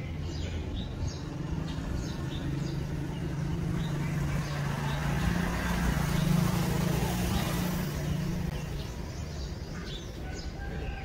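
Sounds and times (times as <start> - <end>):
small birds chirping: 0.0 - 11.0
vehicle engine hum: 0.0 - 11.0.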